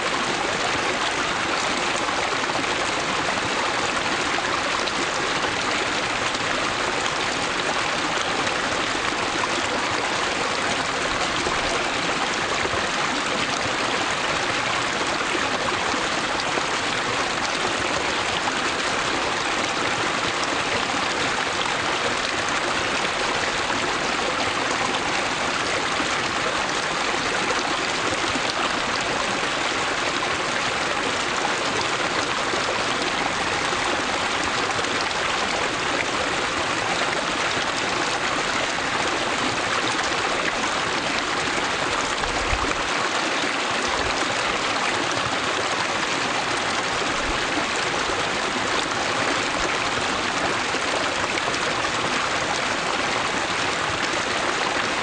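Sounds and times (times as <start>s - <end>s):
stream babbling over stones: 0.0s - 55.0s.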